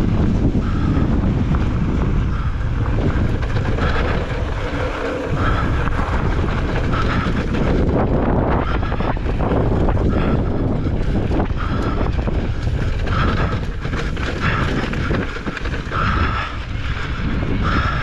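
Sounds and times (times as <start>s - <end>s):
bike knocks and rattles: 0.0s - 18.0s
wind buffeting microphone: 0.0s - 18.0s.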